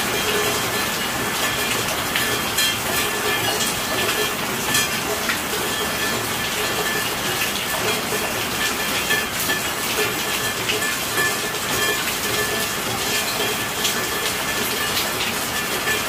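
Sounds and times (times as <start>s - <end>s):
rain drops pattering: 0.0s - 16.0s.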